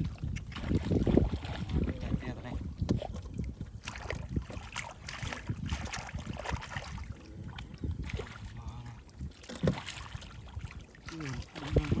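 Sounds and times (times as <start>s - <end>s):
splashing in shallow water: 0.0s - 12.0s.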